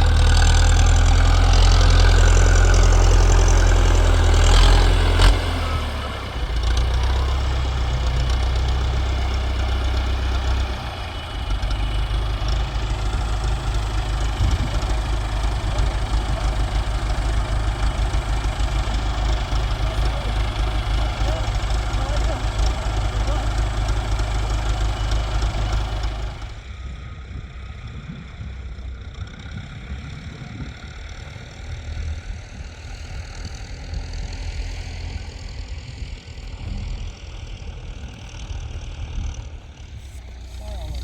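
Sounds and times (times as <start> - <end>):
tractor diesel engine: 0.0 - 41.0.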